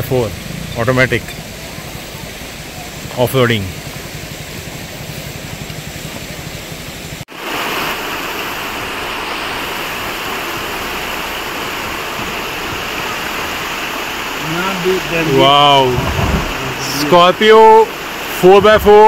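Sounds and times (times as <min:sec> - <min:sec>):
suv engine rumbling: 0:00.0 - 0:07.2, 0:08.4 - 0:19.0
steady rushing noise: 0:00.0 - 0:19.0.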